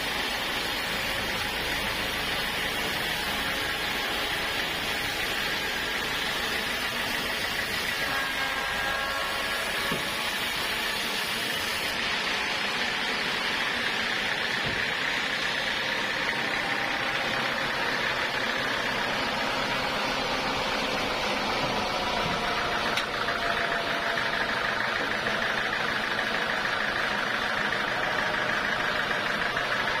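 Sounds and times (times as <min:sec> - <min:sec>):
sawmill saw running: 0:00.0 - 0:30.0.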